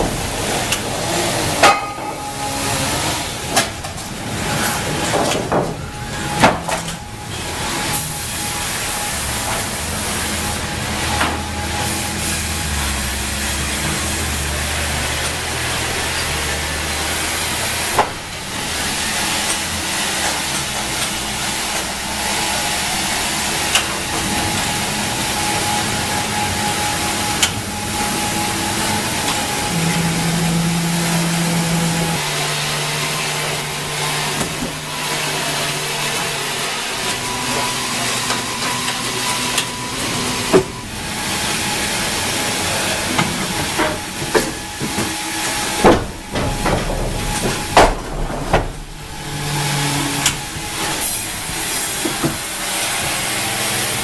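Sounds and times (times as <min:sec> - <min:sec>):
deeper motor tone: 0:00.0 - 0:54.0
sawmill machinery humming: 0:00.0 - 0:54.0.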